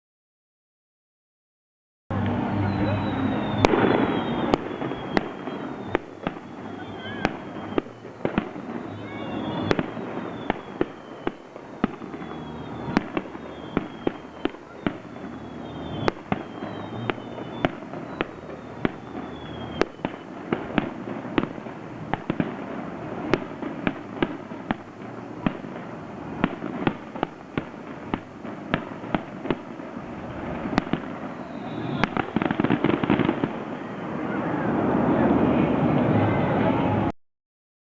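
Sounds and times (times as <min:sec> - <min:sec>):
fireworks crackling: 0:02.1 - 0:37.1
firework shell bursts: 0:02.2 - 0:33.7
falling firework whistles: 0:02.2 - 0:35.0.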